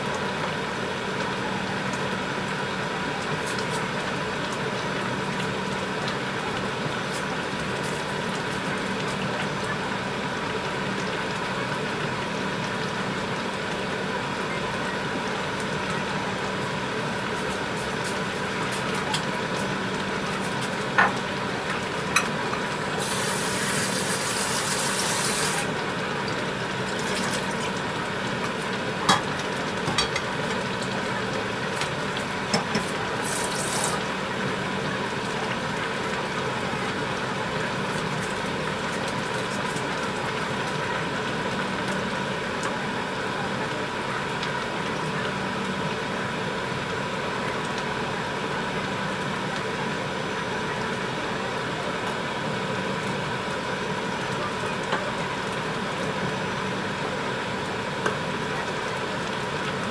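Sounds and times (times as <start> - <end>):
food simmering in a pan: 0.0 - 59.9.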